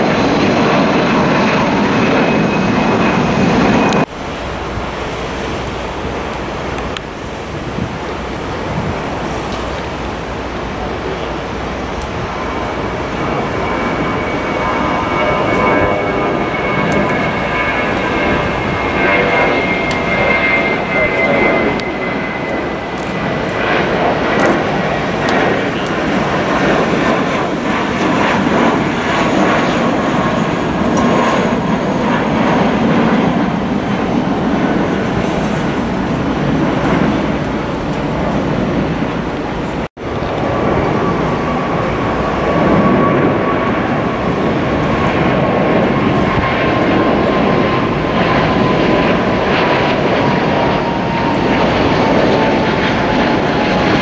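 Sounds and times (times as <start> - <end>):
jet airliner engines climbing: 0.0 - 54.0.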